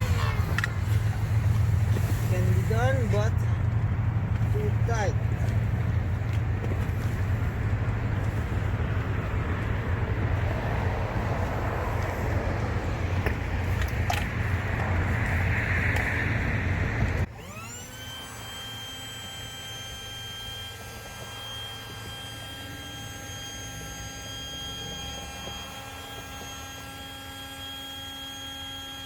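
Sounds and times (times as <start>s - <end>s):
electric air pump humming: 0.0s - 16.2s, 17.0s - 29.0s.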